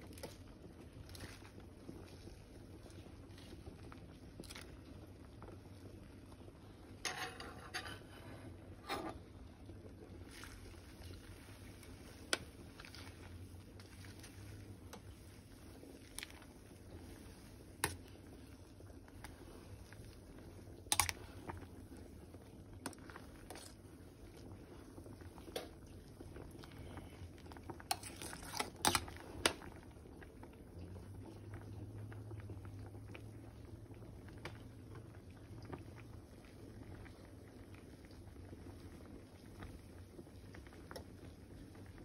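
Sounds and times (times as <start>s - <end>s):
soup bubbling at a boil: 0.0s - 42.0s.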